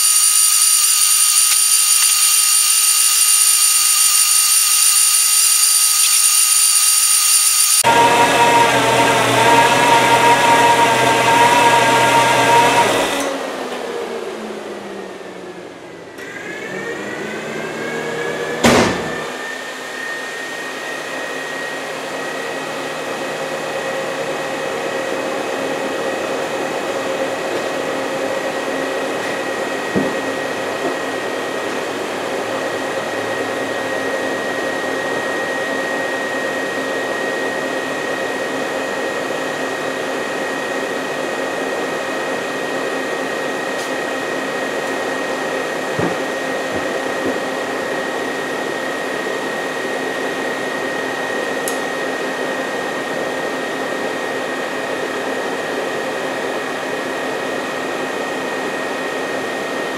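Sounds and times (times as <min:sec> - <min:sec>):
radiator fans whirring: 0:07.8 - 0:59.9.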